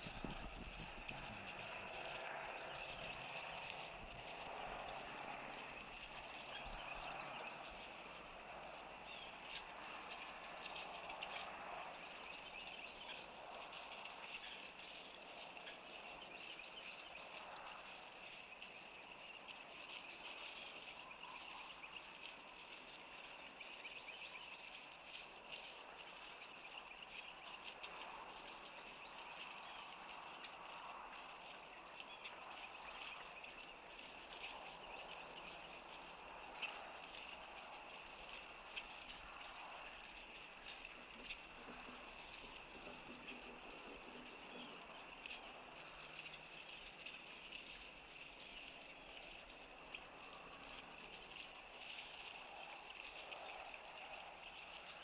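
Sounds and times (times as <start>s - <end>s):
small chirps and ticks: 0.0s - 55.0s.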